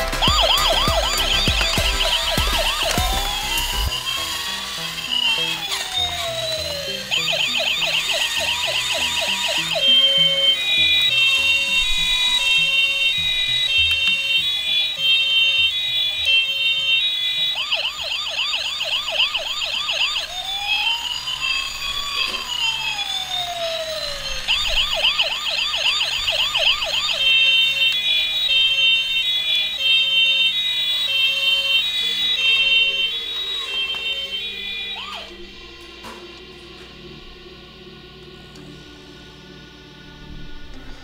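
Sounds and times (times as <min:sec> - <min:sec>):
toy fire truck electronic siren: 0:00.2 - 0:36.5.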